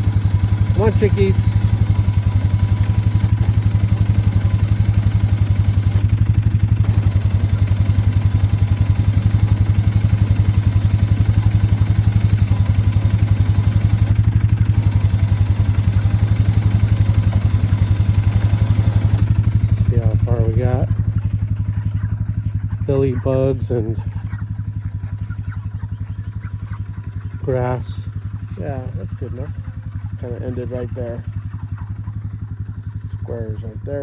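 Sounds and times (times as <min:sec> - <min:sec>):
small engine idling: 0:00.0 - 0:34.0.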